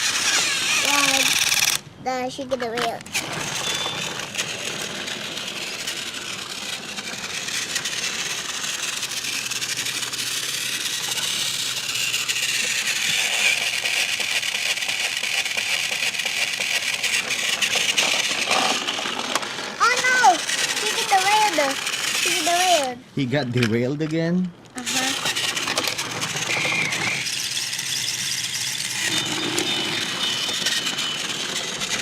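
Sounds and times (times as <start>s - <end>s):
wheels rattling on plastic track: 0.0s - 1.8s, 2.5s - 23.0s, 24.8s - 32.0s
toy train motor whir: 0.0s - 23.0s, 24.8s - 32.0s.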